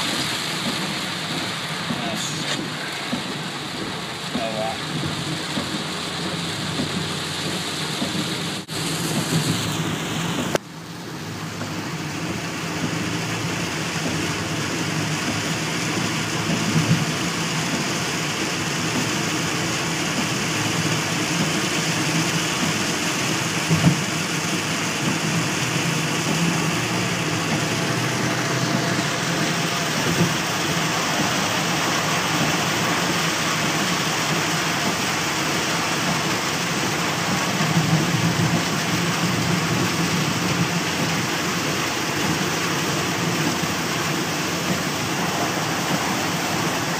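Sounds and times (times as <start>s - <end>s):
car engine running: 0.0s - 46.9s
heavy rain on car roof: 0.0s - 46.9s
tyres on wet road: 0.0s - 46.9s.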